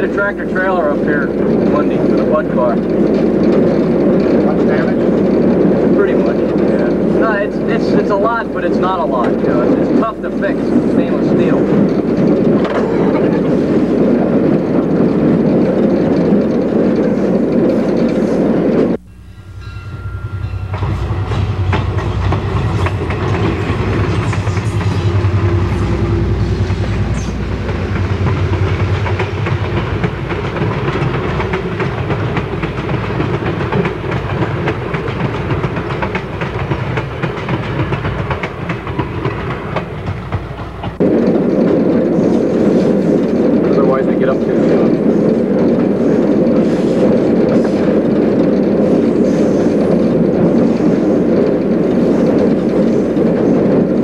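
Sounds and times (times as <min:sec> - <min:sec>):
wheels clacking over rail joints: 0:00.0 - 0:19.0, 0:19.6 - 0:54.0
locomotive cab running noise: 0:00.0 - 0:54.0.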